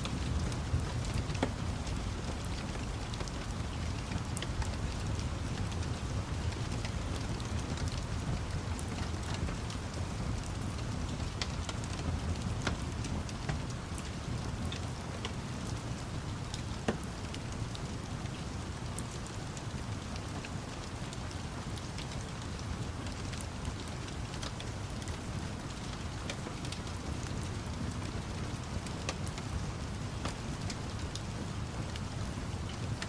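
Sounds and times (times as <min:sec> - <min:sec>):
steady rain: 0:00.0 - 0:33.0
wood fire crackling and popping: 0:00.0 - 0:33.0.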